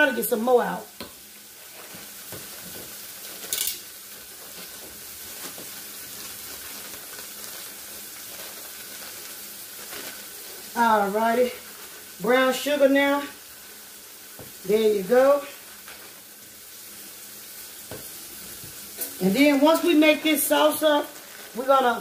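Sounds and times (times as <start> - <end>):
ground beef sizzling in a skillet: 0.0 - 22.0.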